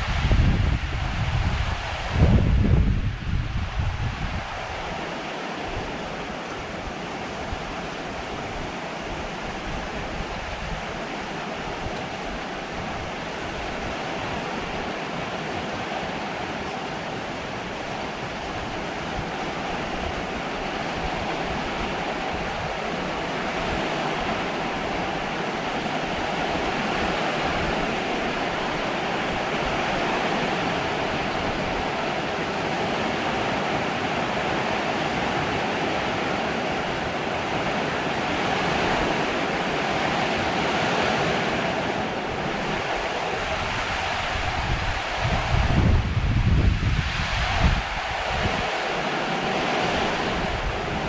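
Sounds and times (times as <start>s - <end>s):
heavy rain: 0.0s - 51.0s
wind: 0.0s - 51.0s.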